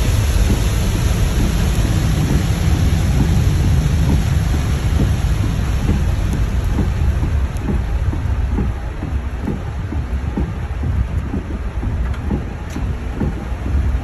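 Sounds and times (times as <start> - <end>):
heavy rain on car roof: 0.0 - 14.0.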